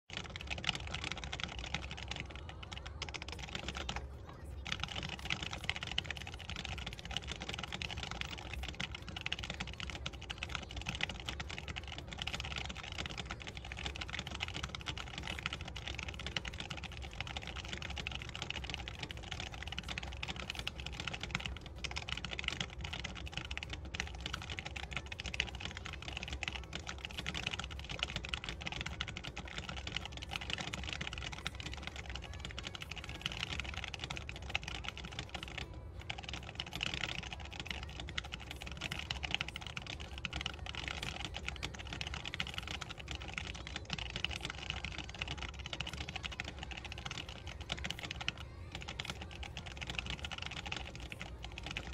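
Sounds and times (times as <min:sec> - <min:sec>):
fast mechanical keyboard typing: 0:00.1 - 0:51.9.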